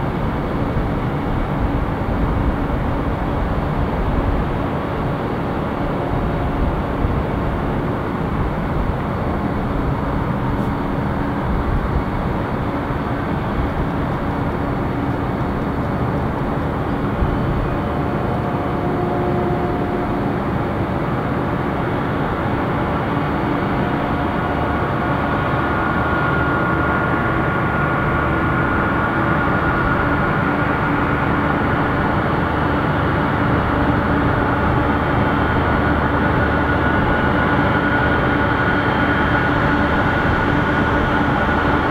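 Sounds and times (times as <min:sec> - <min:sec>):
faint jet whine: 0:00.0 - 0:41.9
jet engine rumble and hiss: 0:00.0 - 0:41.9.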